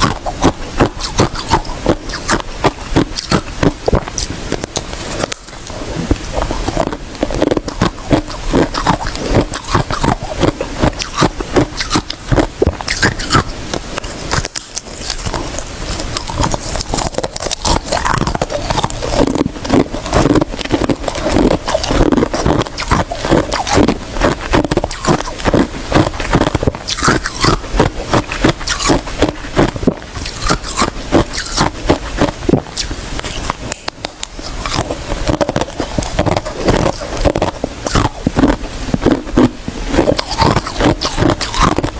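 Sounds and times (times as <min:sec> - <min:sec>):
ice crunching while chewed: 0:00.0 - 0:41.9.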